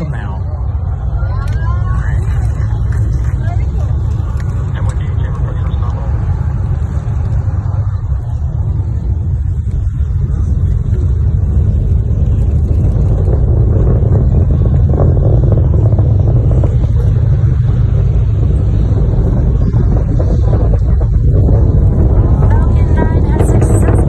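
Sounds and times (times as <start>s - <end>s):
distant rocket engines roaring: 0.0s - 24.0s.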